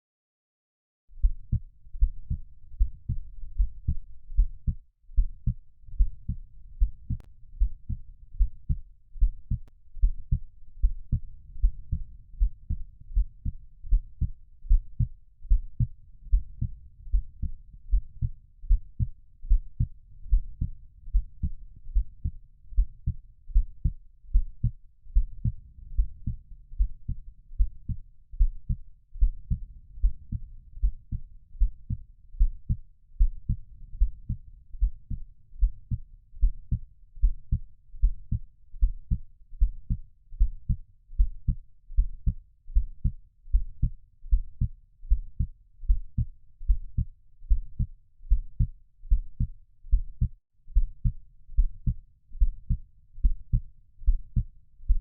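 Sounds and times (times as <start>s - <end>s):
faint low rumble: 1.1s - 55.0s
heartbeat thumps: 1.2s - 55.0s.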